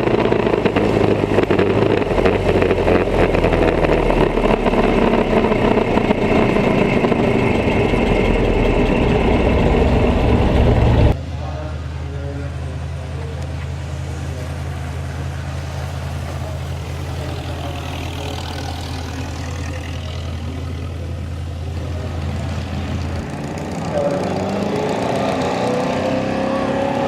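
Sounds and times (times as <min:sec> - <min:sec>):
race car engine idling: 0:00.0 - 0:24.9
engine revving: 0:00.0 - 0:27.0.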